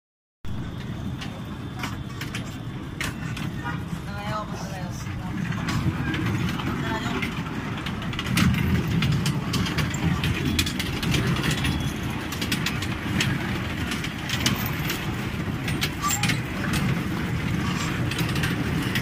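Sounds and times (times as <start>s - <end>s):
mini-train rumbling on track: 0.4s - 19.0s
wheels clacking on rail joints: 0.5s - 19.0s.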